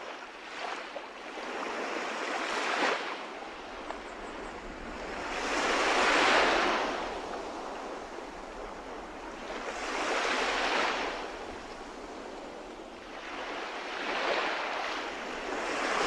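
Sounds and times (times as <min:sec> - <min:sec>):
sea waves breaking on shore: 0:00.0 - 0:16.0
wind on microphone: 0:02.6 - 0:16.0.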